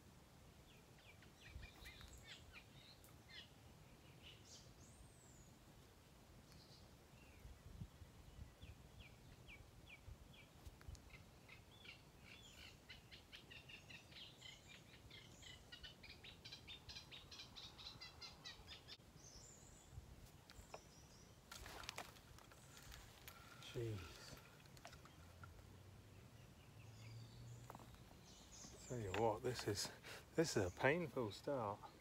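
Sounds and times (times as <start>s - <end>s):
birdsong chirps: 0.5s - 32.0s.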